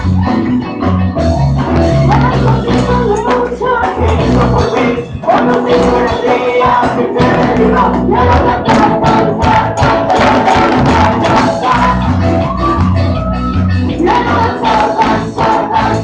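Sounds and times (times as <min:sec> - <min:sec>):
band playing worship music: 0:00.0 - 0:16.0
voices singing: 0:01.8 - 0:16.0
steady drum beat: 0:02.1 - 0:16.0.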